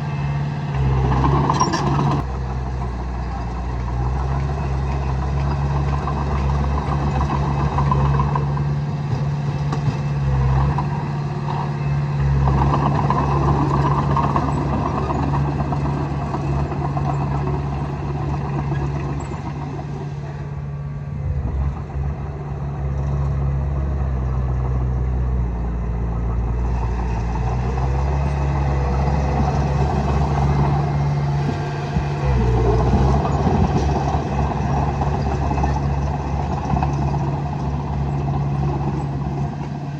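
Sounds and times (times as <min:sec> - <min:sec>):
heavy diesel machinery engine: 0:00.0 - 0:39.9.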